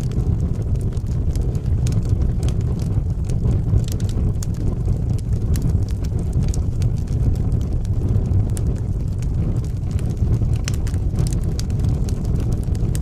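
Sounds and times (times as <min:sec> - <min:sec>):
burning wood crackling and popping: 0:00.0 - 0:13.0
low roar of flames: 0:00.0 - 0:13.0.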